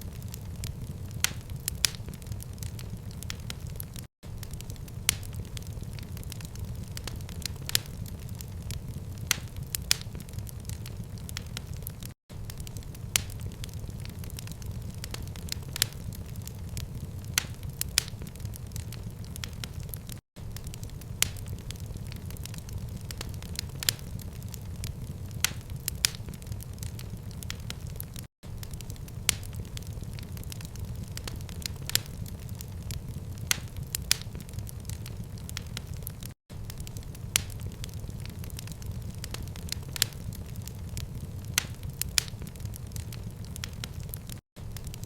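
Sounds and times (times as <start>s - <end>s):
low rumble of flames: 0.0s - 45.0s
wood fire crackling: 0.0s - 45.0s.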